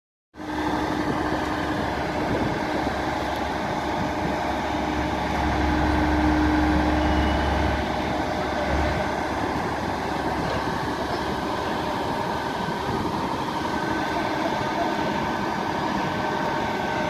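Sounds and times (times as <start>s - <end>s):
diesel engine running under load: 0.4s - 17.0s.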